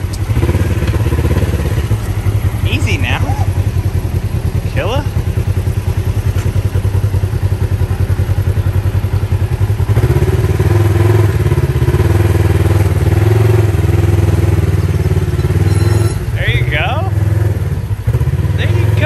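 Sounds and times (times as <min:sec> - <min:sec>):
engine running and revving: 0:00.0 - 0:19.0.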